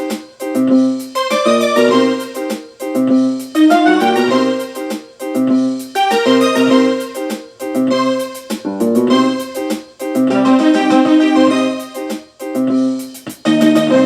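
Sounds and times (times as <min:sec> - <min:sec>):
electric piano chords: 0:00.0 - 0:14.0.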